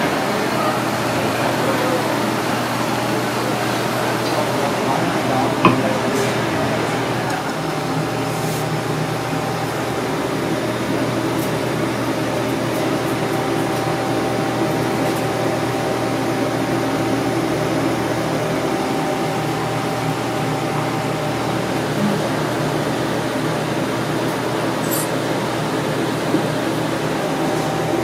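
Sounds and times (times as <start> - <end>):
ventilation fan rushing: 0.0 - 28.0.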